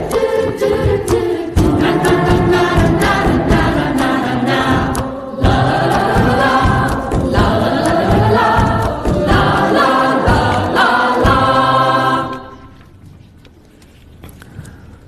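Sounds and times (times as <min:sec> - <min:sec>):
choir-like singing: 0:00.0 - 0:12.8.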